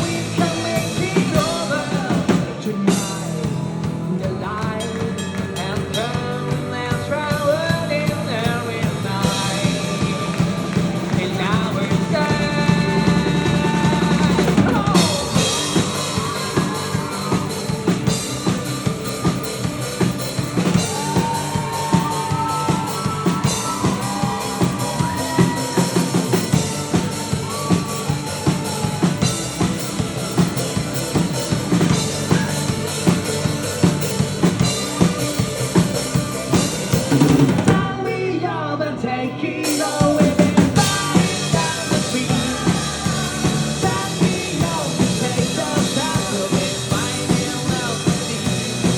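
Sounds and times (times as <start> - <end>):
drum kit beat: 0.0 - 38.2, 39.6 - 48.9
live rock band playing: 0.0 - 48.9.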